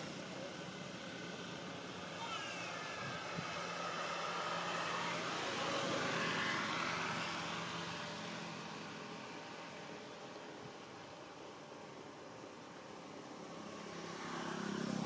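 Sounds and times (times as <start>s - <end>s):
distant motor passing by: 0.0s - 15.0s.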